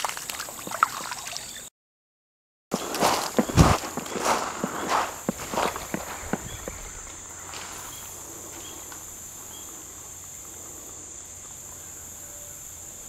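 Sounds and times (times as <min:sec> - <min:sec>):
crickets chirping: 0:00.0 - 0:01.7, 0:02.7 - 0:13.0.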